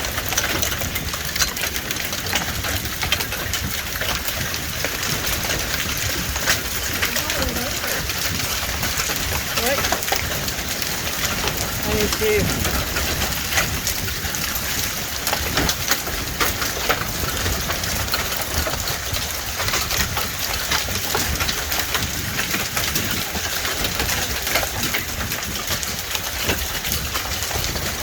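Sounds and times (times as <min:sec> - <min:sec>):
hailstones pattering: 0:00.0 - 0:28.0
rain hiss: 0:00.0 - 0:28.0.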